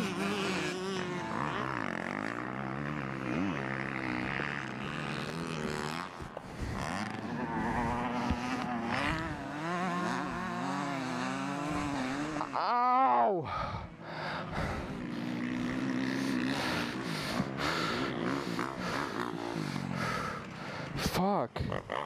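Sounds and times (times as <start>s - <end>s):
motocross engine revving: 0.0s - 13.3s, 13.9s - 22.0s.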